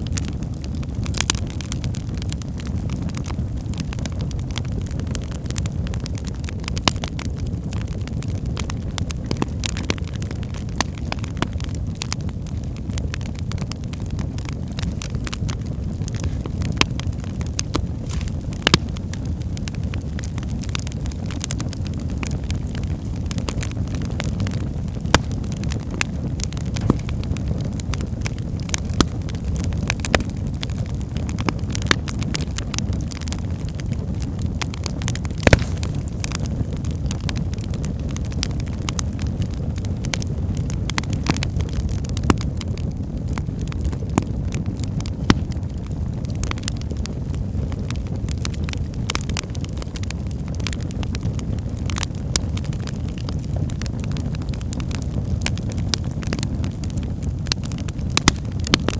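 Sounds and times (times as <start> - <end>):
logs crackling and popping: 0.0 - 58.9
low rumble of flames: 0.0 - 58.9.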